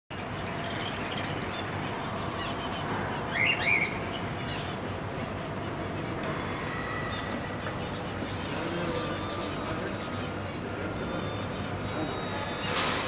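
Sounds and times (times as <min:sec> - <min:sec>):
budgerigars chirping and chattering: 0:00.1 - 0:13.0
steady background hum: 0:00.1 - 0:13.0.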